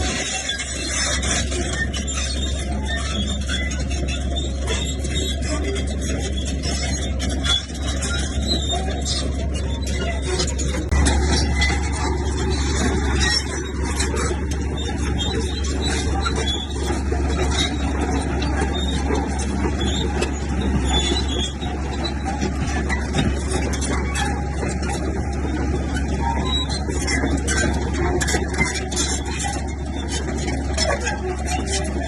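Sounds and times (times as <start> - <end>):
diesel machinery drone: 0.0 - 32.0
rattling and clanking: 0.0 - 32.0.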